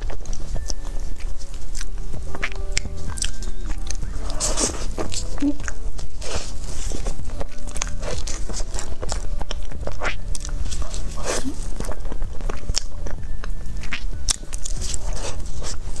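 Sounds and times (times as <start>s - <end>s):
steady low hum: 0.0s - 16.0s
wet chewing and mouth smacks: 0.0s - 16.0s.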